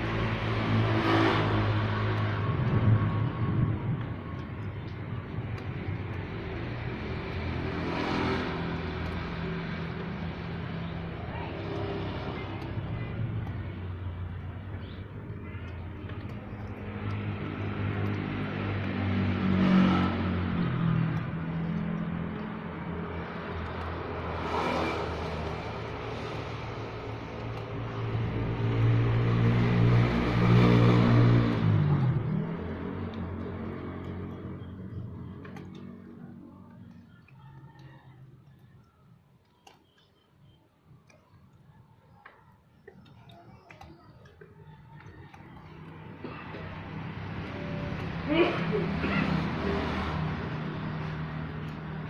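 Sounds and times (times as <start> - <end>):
vehicle passing close: 0.0 - 38.8, 43.3 - 52.0
vehicle engines running: 0.0 - 52.0.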